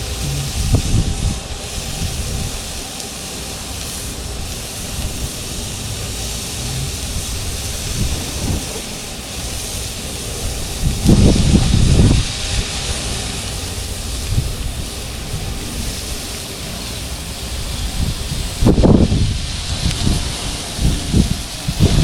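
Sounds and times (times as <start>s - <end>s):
burger patties sizzling on a grill: 0.0s - 22.0s.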